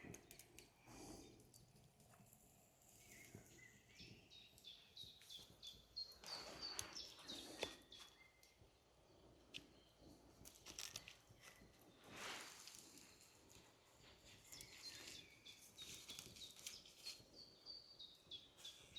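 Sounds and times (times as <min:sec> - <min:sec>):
crunching rustle with clicks: 0:00.0 - 0:08.6, 0:09.4 - 0:17.5
faint bird chirps: 0:02.8 - 0:18.9.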